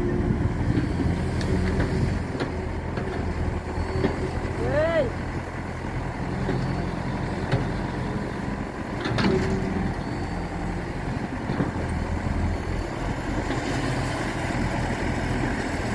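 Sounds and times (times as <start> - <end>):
excavator engine running: 0.0 - 15.9.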